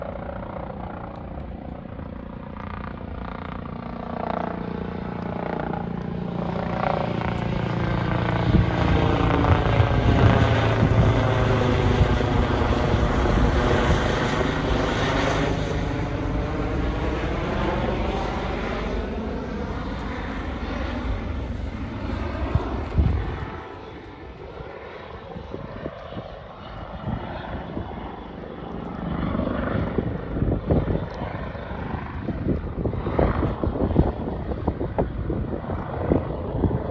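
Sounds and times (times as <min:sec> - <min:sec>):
helicopter rotor and turbine: 0:00.0 - 0:36.9.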